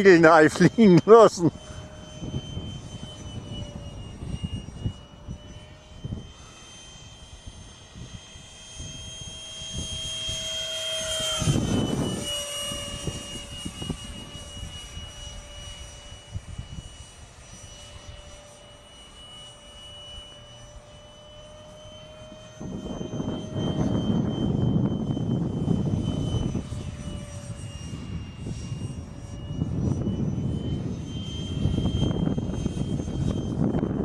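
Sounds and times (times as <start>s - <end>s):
wind buffeting microphone: 0.0s - 17.2s, 21.6s - 34.0s
electric ducted fan whining: 0.0s - 34.0s.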